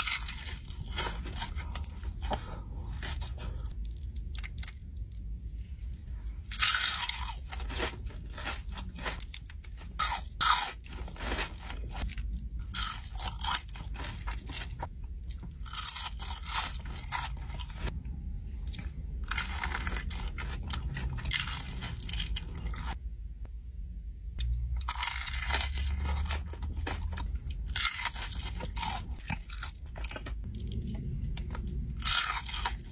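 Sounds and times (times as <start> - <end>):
chewing crispy fried food: 0.0 - 18.0, 18.7 - 23.0, 24.4 - 32.9
steady low hum: 0.0 - 32.9.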